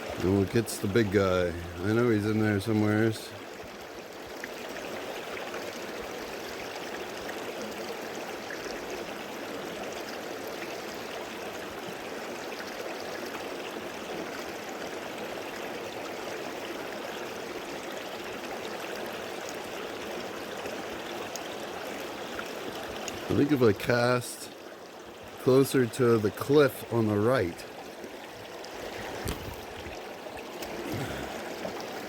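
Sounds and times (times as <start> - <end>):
creek water flowing: 0.0 - 32.0.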